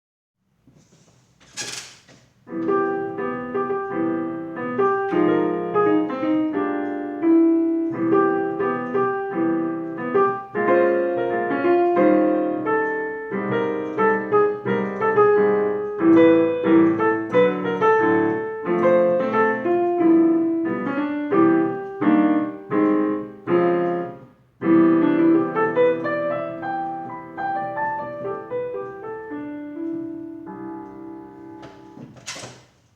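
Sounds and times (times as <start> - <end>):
piano melody over chords: 2.4 - 32.2.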